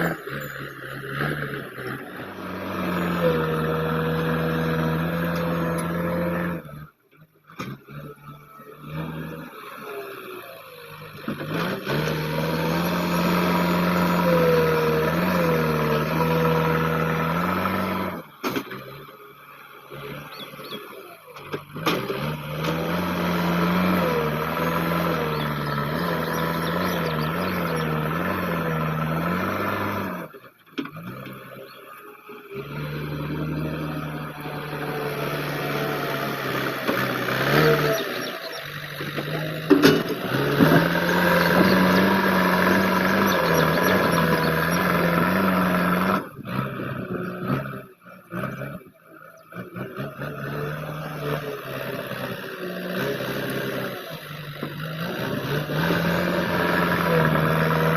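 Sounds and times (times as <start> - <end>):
diesel engine working: 0.0 - 57.9.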